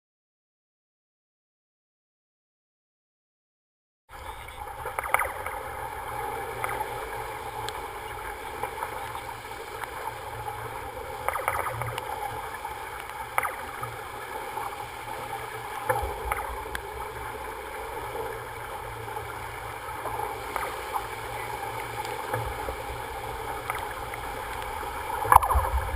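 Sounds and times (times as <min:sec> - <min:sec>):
rush of water and wind: 0:04.1 - 0:25.9.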